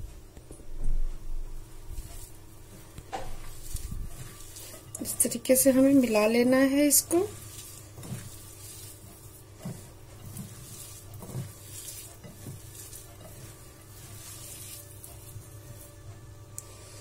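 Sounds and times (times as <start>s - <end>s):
hand kneading vegetables rustling: 0.0s - 16.6s
steady low hum: 0.0s - 17.0s.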